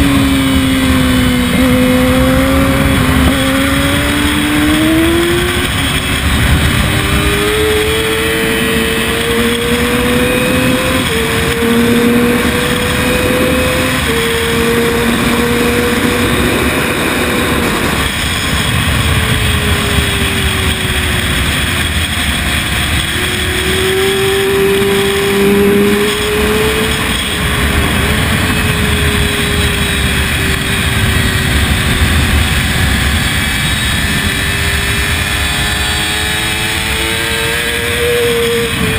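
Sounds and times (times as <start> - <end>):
motorcycle engine revving: 0.0 - 38.9
wind rush over microphone: 0.0 - 38.9.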